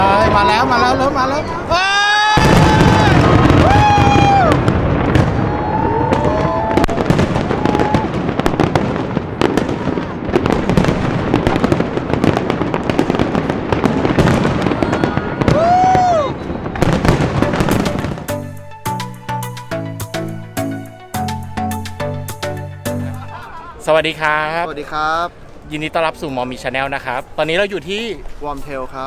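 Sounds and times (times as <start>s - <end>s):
fireworks crackling and banging: 0.0s - 1.7s, 2.3s - 24.4s.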